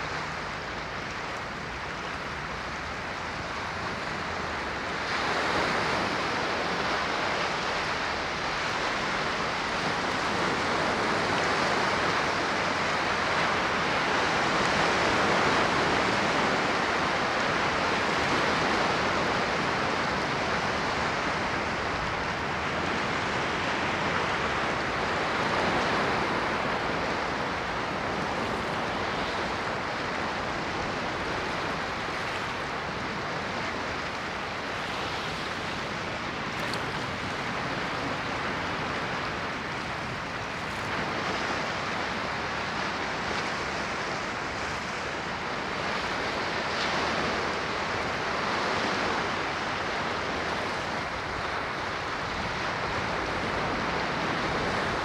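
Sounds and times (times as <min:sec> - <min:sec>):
ocean waves washing onto shore: 0:00.0 - 0:55.0.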